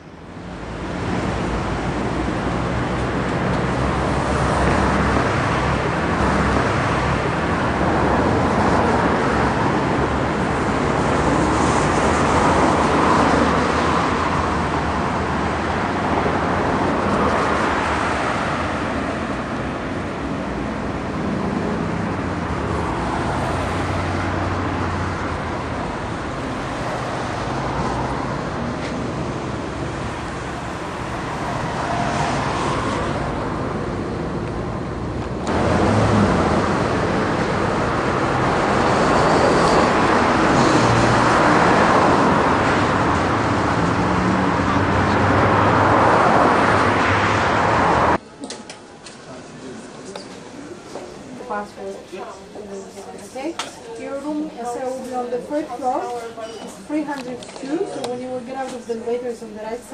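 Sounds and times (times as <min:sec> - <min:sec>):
passing cars rushing: 0:00.2 - 0:48.2.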